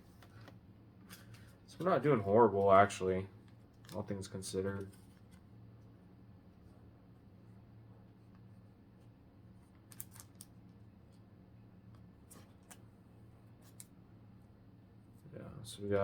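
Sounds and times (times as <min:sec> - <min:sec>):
low room tone hum: 0:00.0 - 0:16.0.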